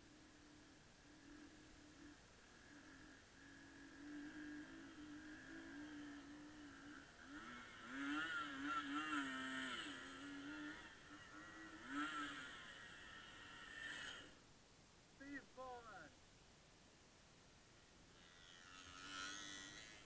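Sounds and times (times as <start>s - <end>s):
bike humming whine: 0.0s - 14.4s, 18.1s - 20.0s.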